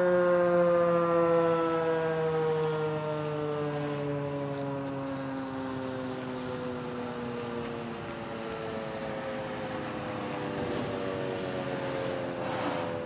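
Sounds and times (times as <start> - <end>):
rotating siren winding down: 0.0 - 13.0.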